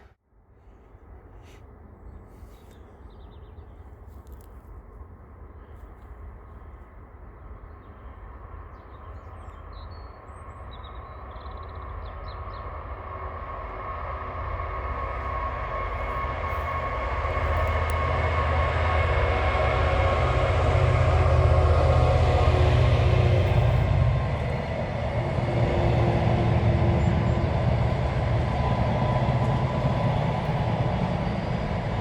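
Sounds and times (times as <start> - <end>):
freight train rumble: 0.0 - 32.0.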